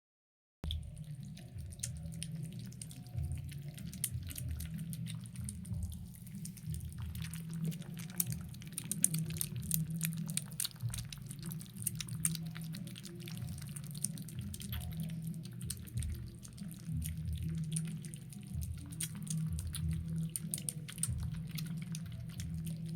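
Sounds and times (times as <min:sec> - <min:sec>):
kittens chewing and lapping: 0:00.6 - 0:22.9
low steady hum: 0:00.6 - 0:22.9.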